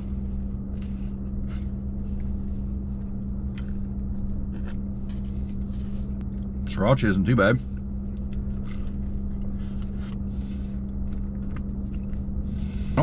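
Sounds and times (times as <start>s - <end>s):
person chewing a soft wrap: 0.0s - 6.7s, 7.6s - 13.0s
low hum of truck cab: 0.0s - 13.0s.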